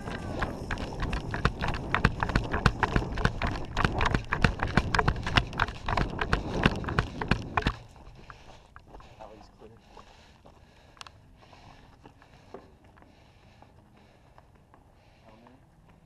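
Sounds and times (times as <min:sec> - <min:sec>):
running footsteps on gravel: 0:00.0 - 0:16.0.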